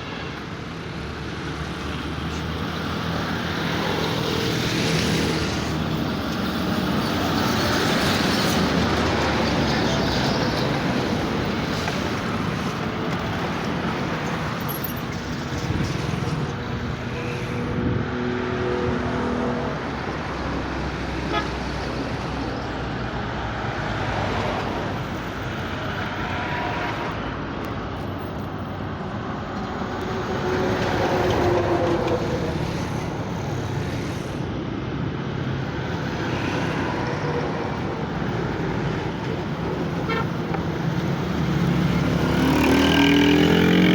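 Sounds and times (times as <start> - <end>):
traffic noise: 0.0 - 43.9.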